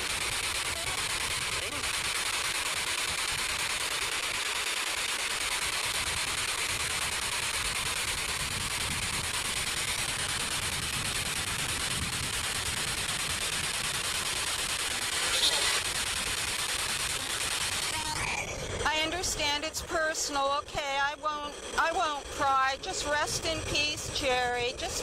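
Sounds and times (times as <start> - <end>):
radio static sweeping stations: 0.0 - 25.0.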